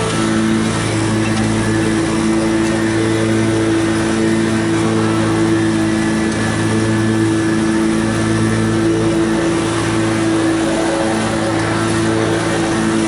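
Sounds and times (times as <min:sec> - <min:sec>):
lawn mower cutting grass: 0:00.0 - 0:13.0.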